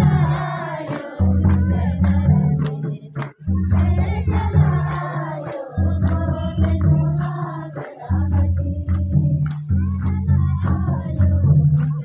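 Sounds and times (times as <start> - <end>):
high jingling percussion: 0.0 - 12.0
voices singing: 0.0 - 12.0.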